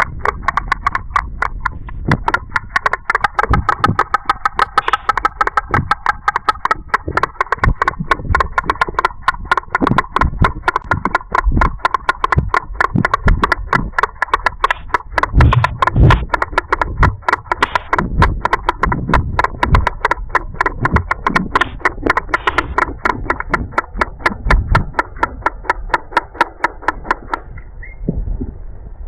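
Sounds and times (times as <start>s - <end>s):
storks bill-clattering: 0.0s - 27.4s
heavy low thuds: 1.8s - 25.3s.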